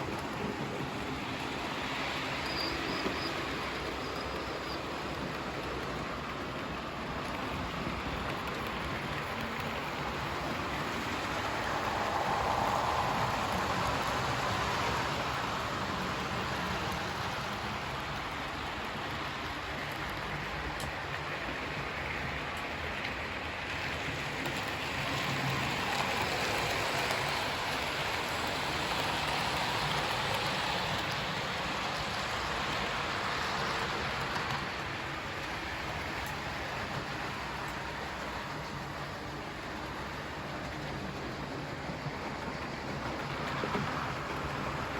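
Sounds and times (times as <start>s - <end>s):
model trains rattling on track: 0.0s - 44.9s.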